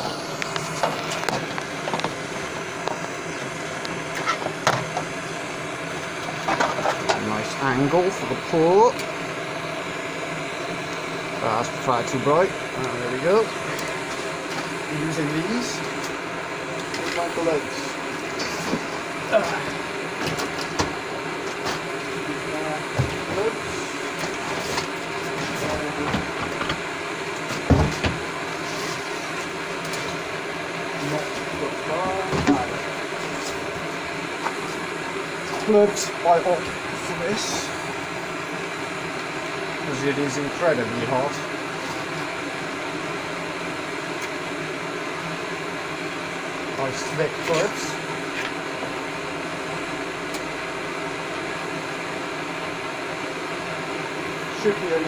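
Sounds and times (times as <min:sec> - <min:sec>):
furnace whirring and hissing: 0:00.0 - 0:55.0.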